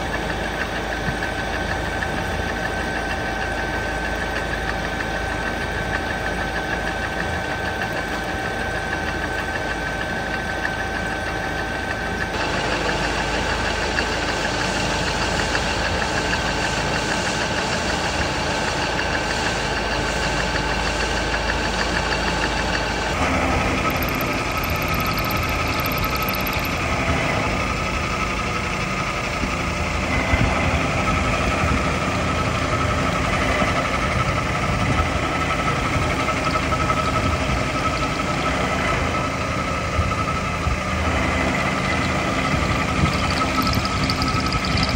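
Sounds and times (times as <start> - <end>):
machine tool humming and whining: 0.0 - 44.9.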